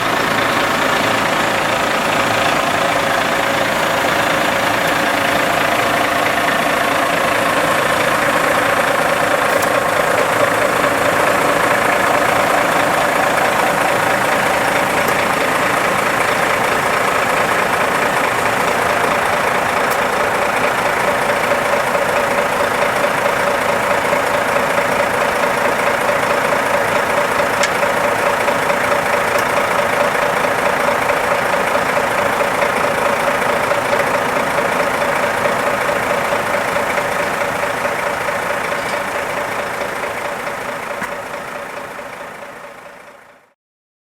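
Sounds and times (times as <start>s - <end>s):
truck engine idling: 0.0s - 43.6s.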